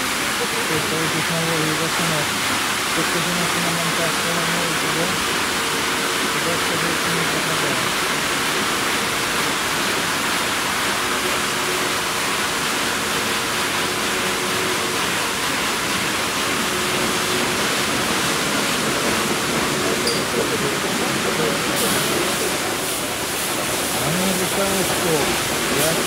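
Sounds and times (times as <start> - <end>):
water spraying: 0.0 - 26.0.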